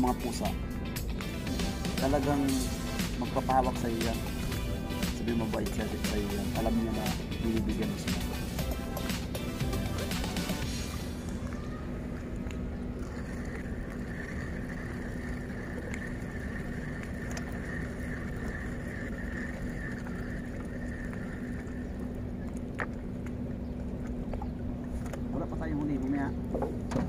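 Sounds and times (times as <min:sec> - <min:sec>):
high steady whine: 0:00.0 - 0:27.0
low engine drone: 0:00.0 - 0:27.0.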